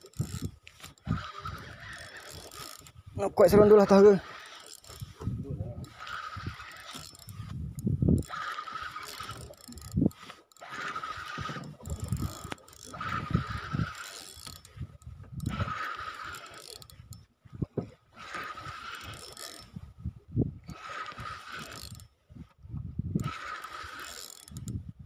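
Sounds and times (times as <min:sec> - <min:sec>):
fishing reel gears whirring: 0:00.0 - 0:25.0.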